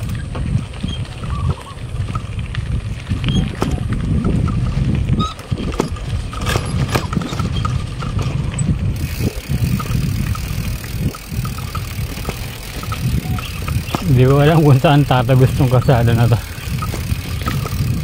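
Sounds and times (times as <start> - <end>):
bicycle tyres rumbling on dirt: 0.0 - 18.0
bike knocking and rattling: 0.0 - 18.0.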